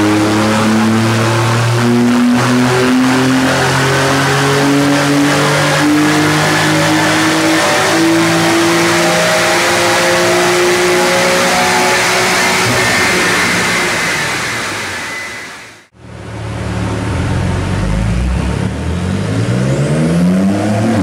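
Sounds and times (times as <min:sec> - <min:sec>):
car engine revving on dynamometer: 0:00.0 - 0:15.6, 0:16.7 - 0:21.0.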